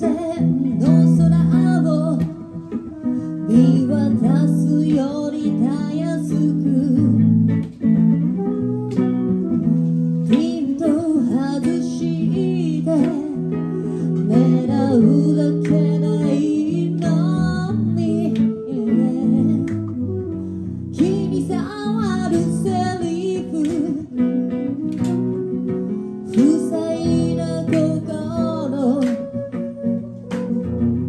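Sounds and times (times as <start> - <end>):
woman singing: 0.0 - 30.8
flute: 0.0 - 31.0
semi-acoustic guitar: 0.0 - 31.0.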